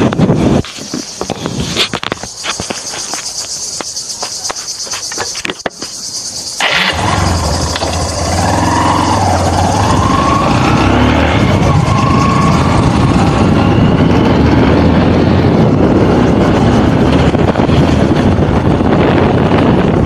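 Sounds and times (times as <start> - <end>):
motorcycle engine hum: 0.0 - 20.0
rushing wind noise: 0.0 - 20.0.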